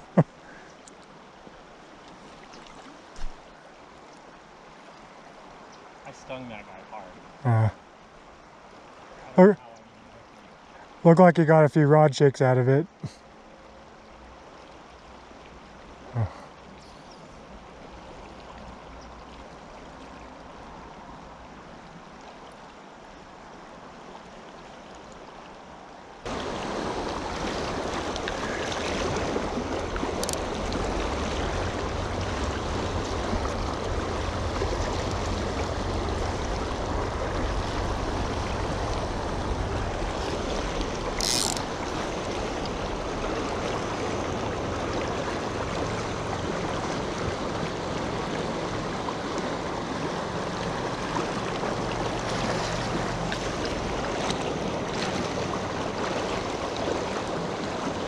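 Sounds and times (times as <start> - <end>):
river water rushing: 0.0 - 11.1, 12.9 - 58.0.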